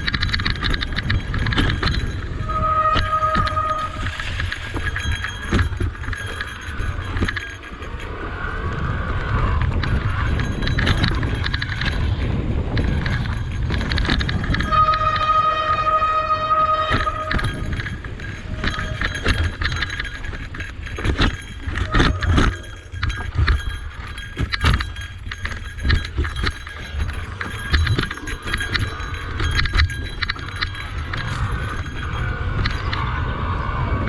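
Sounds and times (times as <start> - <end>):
sharp knocks and clatter: 0.0 - 8.2, 8.8 - 33.2
bike rattling over rough trail: 0.0 - 34.0.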